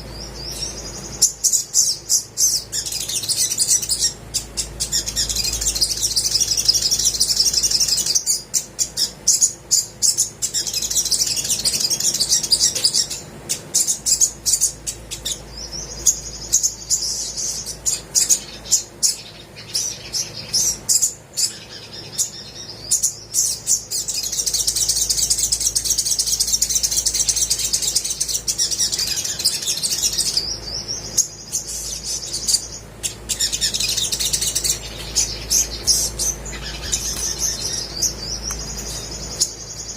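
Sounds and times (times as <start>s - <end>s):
sunbird twittering warble: 0.0s - 39.9s.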